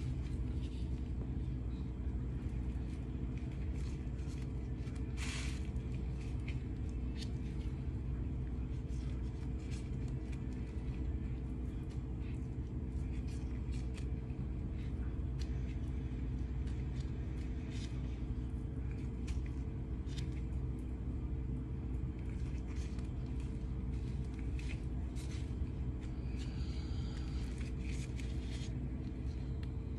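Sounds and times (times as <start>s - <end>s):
plastic gloves rustling: 0.0s - 29.9s
steady low hum: 0.0s - 29.9s.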